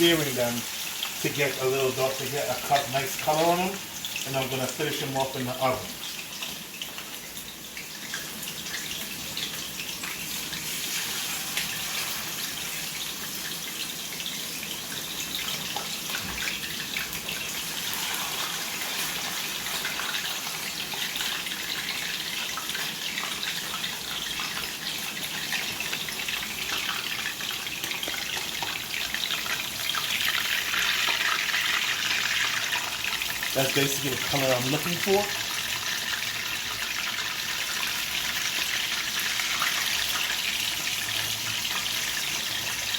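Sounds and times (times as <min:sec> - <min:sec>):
chicken sizzling in hot pan: 0:00.0 - 0:42.9.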